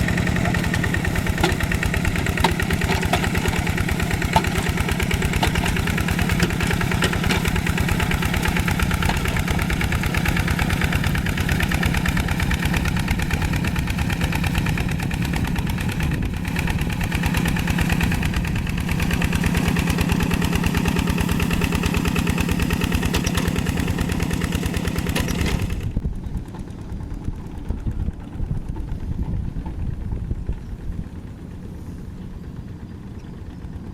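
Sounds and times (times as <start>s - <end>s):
diesel tractor engine running: 0.0s - 33.9s.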